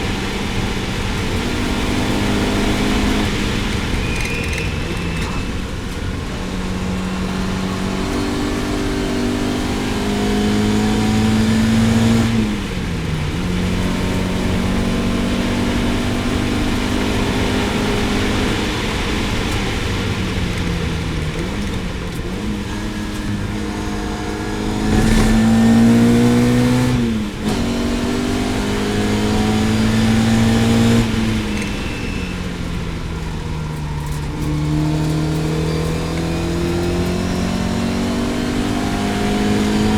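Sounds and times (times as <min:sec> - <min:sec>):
racing car engine accelerating: 0:00.0 - 0:39.9.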